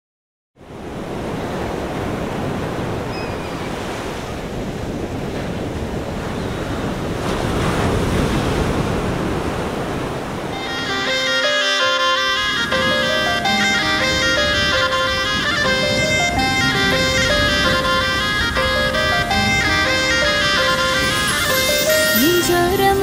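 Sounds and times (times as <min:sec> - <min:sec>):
waves breaking on sandy beach: 0:00.6 - 0:22.6.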